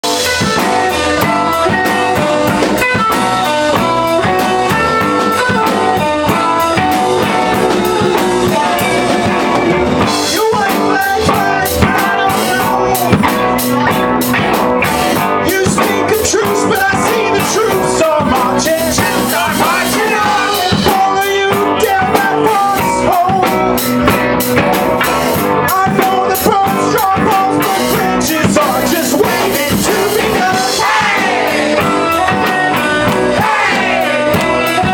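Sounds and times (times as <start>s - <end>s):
drum kit: 0.0s - 34.9s
electric guitar: 0.0s - 34.9s
live rock band playing: 0.0s - 34.9s.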